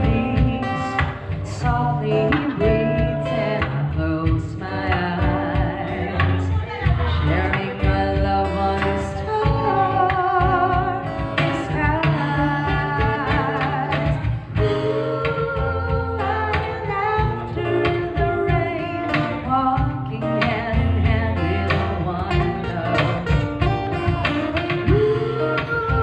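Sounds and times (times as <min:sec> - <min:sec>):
acoustic percussion beat: 0:00.0 - 0:26.0
strummed acoustic guitar: 0:00.0 - 0:26.0
woman singing with vibrato: 0:00.0 - 0:26.0.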